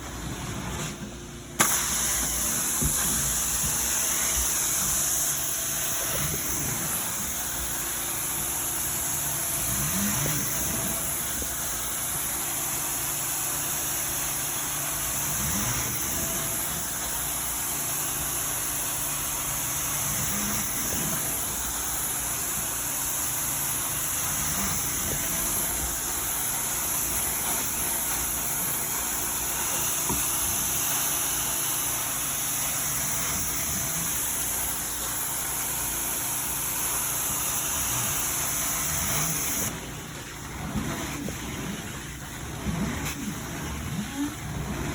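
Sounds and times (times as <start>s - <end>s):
vacuum equipment running: 0.0s - 44.9s.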